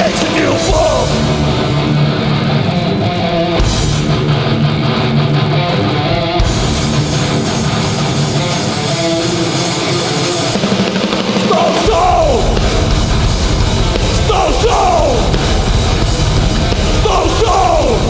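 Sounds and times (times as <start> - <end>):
bass guitar: 0.0 - 18.0
distorted guitar riff: 0.0 - 18.0
drums and cymbals: 0.0 - 18.0.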